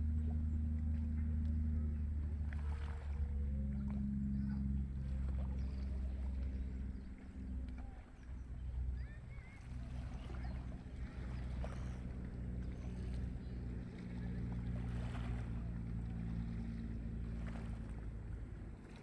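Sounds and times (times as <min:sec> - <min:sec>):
ship engine droning: 0:00.0 - 0:19.0.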